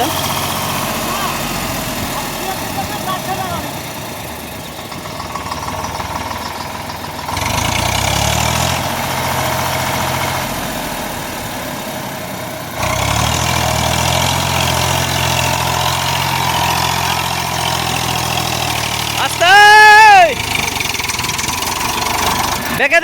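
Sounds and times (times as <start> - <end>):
tractor engine straining under load: 0.0 - 23.0.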